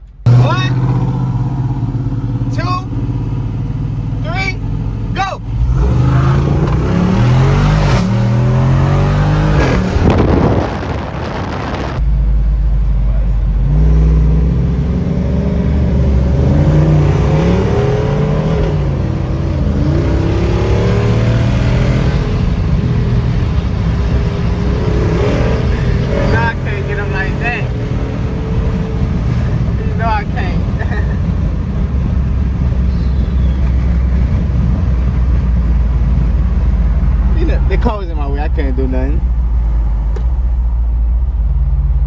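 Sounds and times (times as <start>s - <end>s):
engines accelerating hard: 0.2s - 12.0s, 13.0s - 40.6s.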